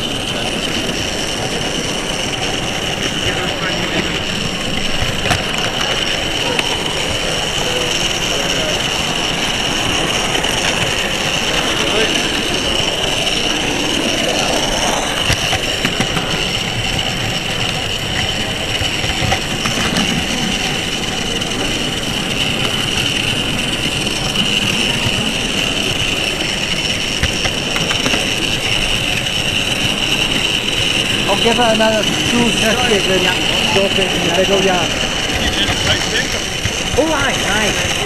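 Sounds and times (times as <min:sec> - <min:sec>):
indistinct background voices: 0:00.0 - 0:38.0
model train whine and rumble: 0:00.0 - 0:38.0.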